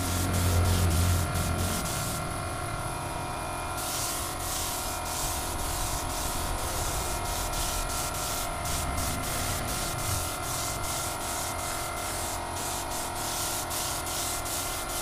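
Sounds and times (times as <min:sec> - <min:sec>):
air spray gun hissing: 0:00.0 - 0:02.4, 0:03.8 - 0:15.0
steady hum: 0:00.0 - 0:14.9.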